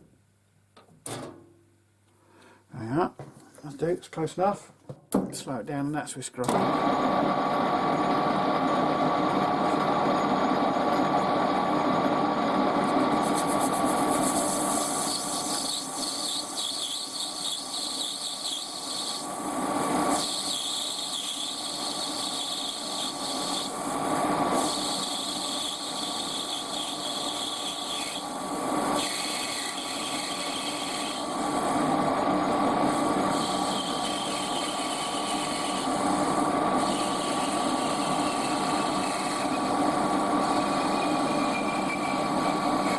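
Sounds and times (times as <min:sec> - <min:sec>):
lathe motor whine: 0:06.5 - 0:42.9
lathe tool cutting brass: 0:06.7 - 0:42.9.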